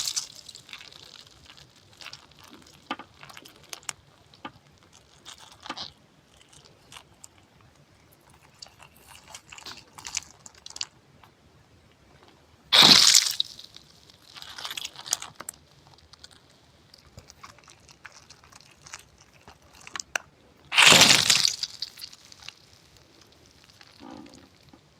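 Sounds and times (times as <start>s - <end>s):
close crunching and crackles: 0.0s - 11.4s, 12.2s - 24.9s.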